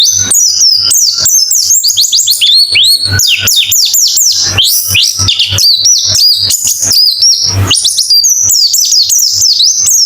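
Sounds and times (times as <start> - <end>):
birds twittering high chirps: 0.0 - 10.0.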